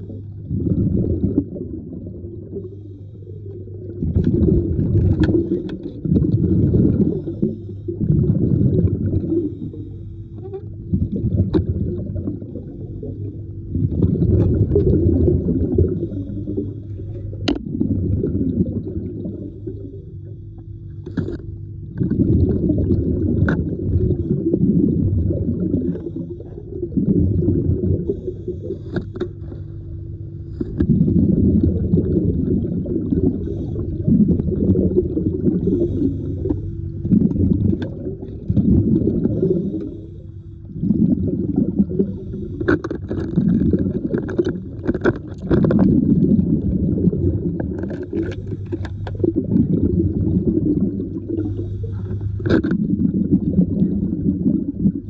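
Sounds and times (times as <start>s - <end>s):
steady low hum: 0.0s - 55.0s
underwater bubbling: 0.0s - 55.0s.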